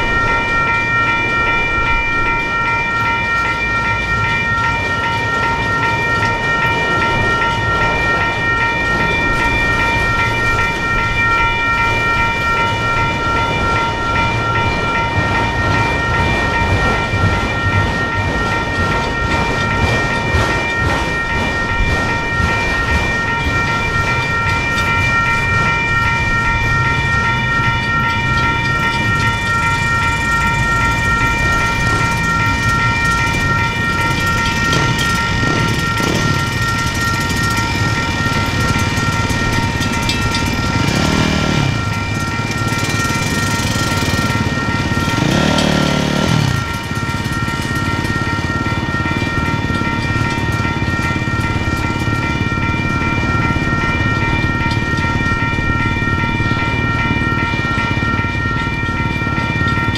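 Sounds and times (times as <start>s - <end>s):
freight train rolling past: 0.0s - 59.9s
railroad crossing bell ringing: 0.0s - 59.9s.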